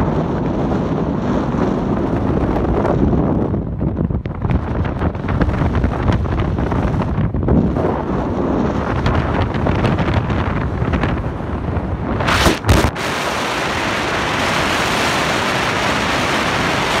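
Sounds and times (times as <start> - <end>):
rush of wind and water: 0.0 - 17.0
wind buffeting microphone: 0.0 - 17.0.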